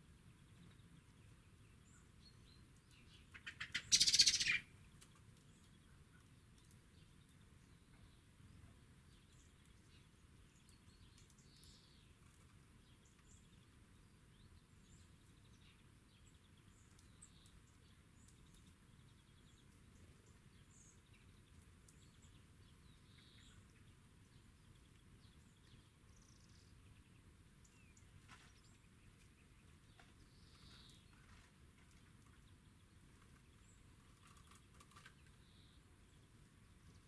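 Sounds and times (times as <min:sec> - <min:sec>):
small bird chirps: 0:00.1 - 0:37.0.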